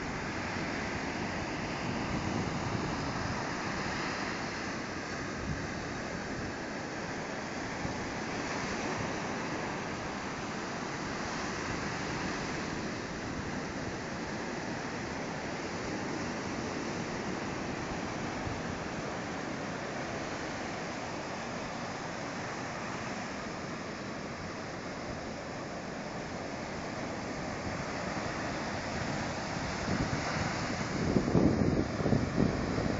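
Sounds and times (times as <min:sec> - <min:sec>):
waves washing up beach: 0:00.0 - 0:32.9.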